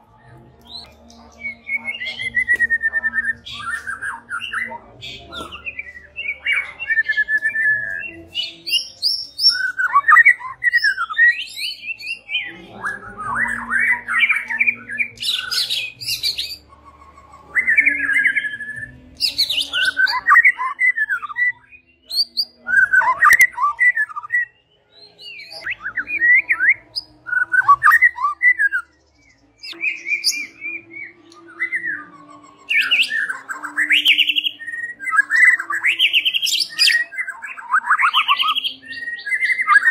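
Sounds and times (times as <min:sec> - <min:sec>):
bird singing whistled phrases: 0:00.7 - 0:16.7, 0:17.5 - 0:39.9.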